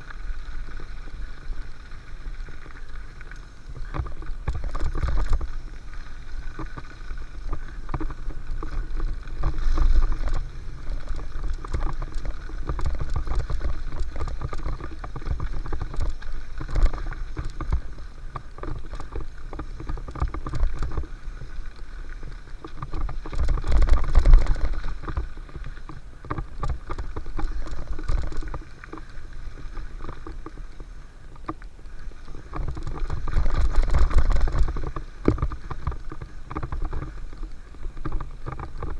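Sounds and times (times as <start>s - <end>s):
bike rattling over bumps: 0.0s - 38.9s
wind and rolling tyres rumble: 0.0s - 38.9s.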